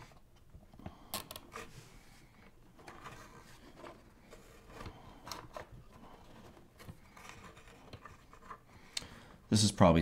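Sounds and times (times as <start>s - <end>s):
wires rustling: 0.0s - 9.5s.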